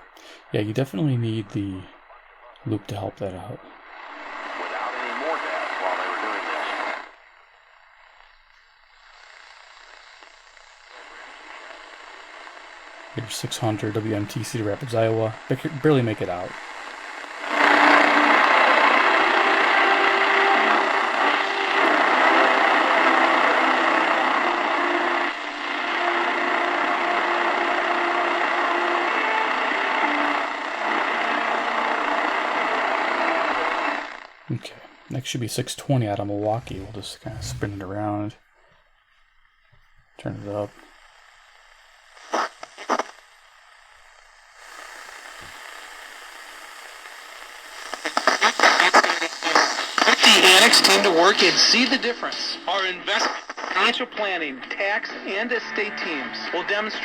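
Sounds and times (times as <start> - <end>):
faint radio station: 0.0 - 57.0
radio static and hiss: 0.0 - 57.0.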